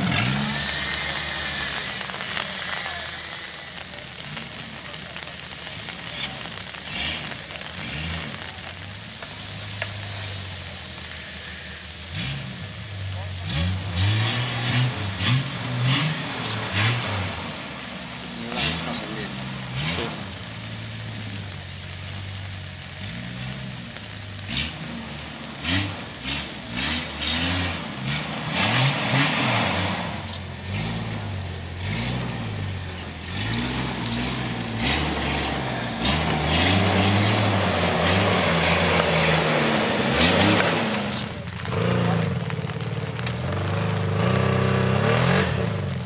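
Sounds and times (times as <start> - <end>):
off-road engine revving: 0.0 - 46.0.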